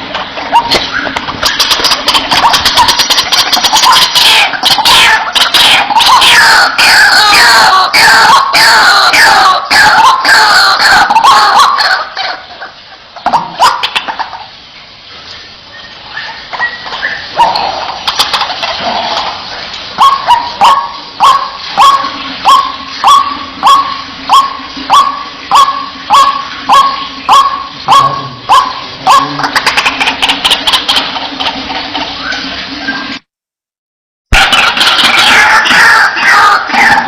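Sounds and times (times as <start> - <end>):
waterhen calling: 0.0 - 33.2, 34.3 - 37.0.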